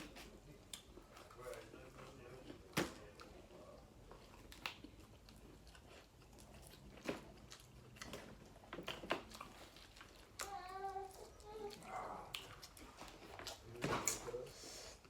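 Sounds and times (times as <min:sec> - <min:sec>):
crunches and clicks while eating: 0:00.0 - 0:14.4
chewing: 0:00.0 - 0:15.0.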